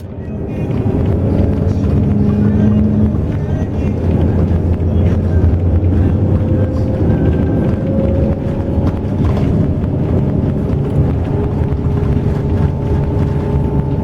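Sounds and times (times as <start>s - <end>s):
bus engine and road rumble: 0.0s - 14.0s
faint whine: 0.0s - 14.0s.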